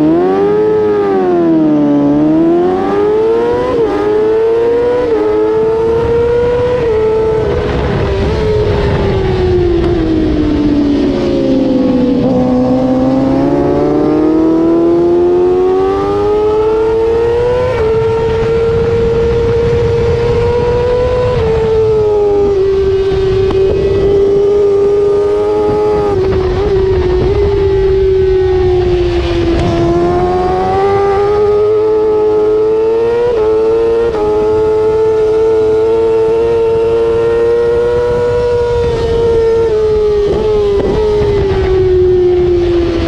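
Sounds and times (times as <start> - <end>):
motorcycle engine at full throttle: 0.0 - 43.0
wind rush: 0.0 - 43.0.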